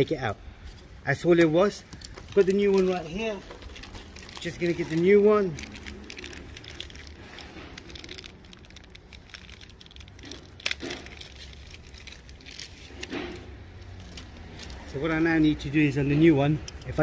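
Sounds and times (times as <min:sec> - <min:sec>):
faint rustling and handling: 0:00.1 - 0:17.0.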